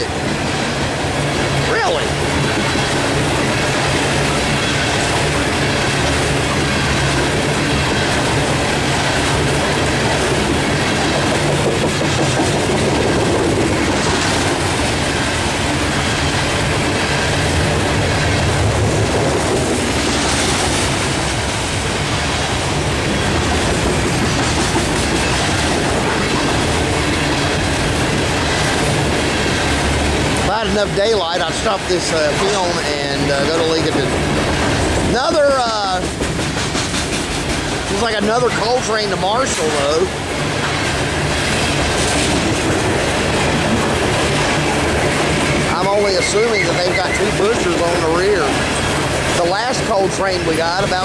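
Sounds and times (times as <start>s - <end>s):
freight train wheels clattering: 0.0s - 51.0s.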